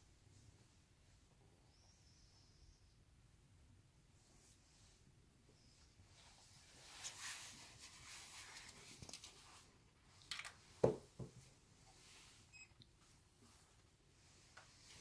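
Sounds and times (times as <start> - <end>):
faint rustling of clothing: 0.0 - 15.0.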